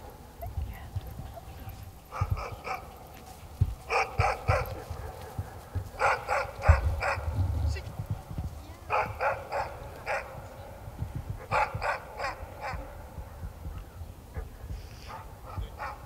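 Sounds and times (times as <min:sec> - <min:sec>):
low rumble: 0:00.4 - 0:14.9.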